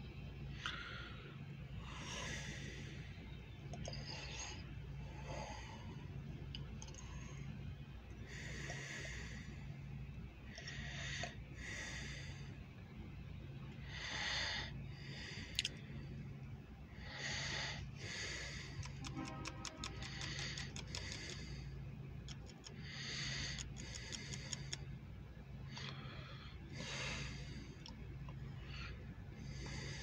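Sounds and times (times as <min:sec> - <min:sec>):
steady low hum: 0:00.0 - 0:30.0
person breathing close to microphone: 0:00.5 - 0:12.8, 0:13.6 - 0:16.3, 0:16.9 - 0:30.0.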